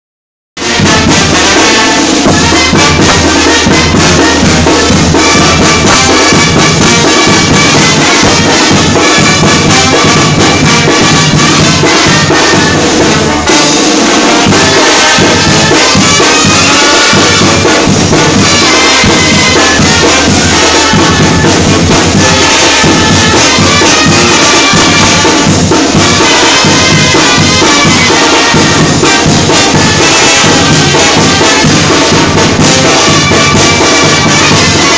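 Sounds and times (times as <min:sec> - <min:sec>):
brass band playing loudly: 0:00.6 - 0:34.9.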